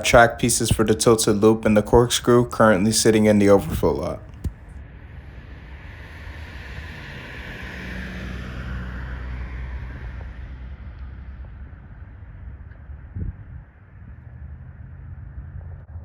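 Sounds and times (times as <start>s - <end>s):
low engine rumble: 0.0s - 16.0s
passing traffic: 0.0s - 16.0s.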